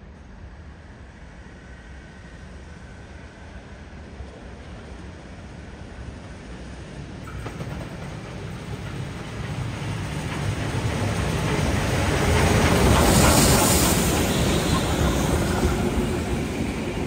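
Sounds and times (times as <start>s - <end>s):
steam train approaching: 0.2s - 17.0s.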